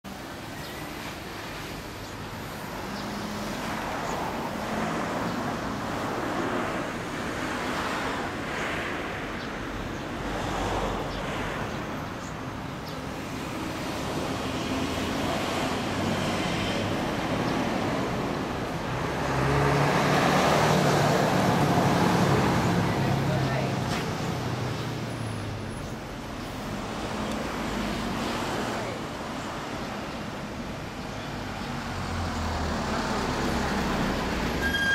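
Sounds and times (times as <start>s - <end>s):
road traffic passing: 0.0s - 34.9s.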